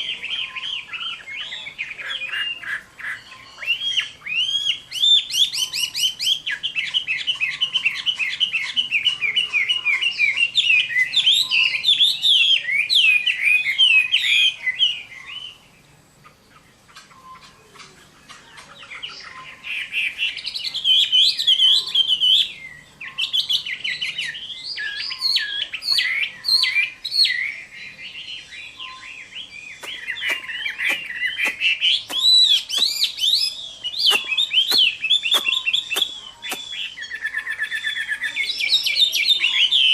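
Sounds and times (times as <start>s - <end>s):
bird singing rapid warbling song: 0.0s - 39.9s.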